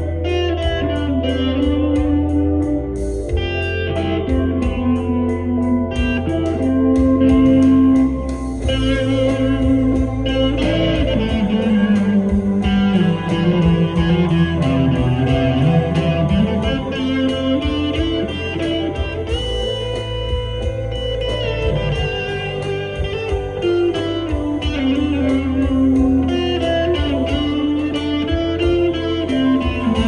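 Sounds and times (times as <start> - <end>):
electric guitar lead line: 0.0 - 30.0
low accompaniment: 0.0 - 30.0.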